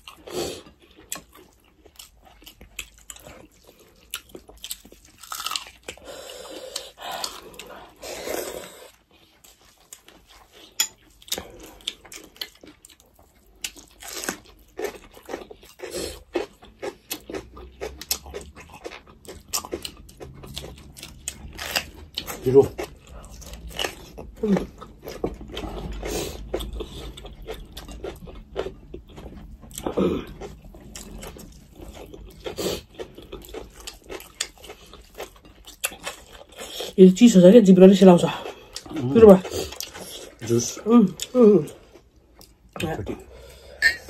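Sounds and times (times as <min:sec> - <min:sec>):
chewing and crunching food: 0:00.0 - 0:44.0.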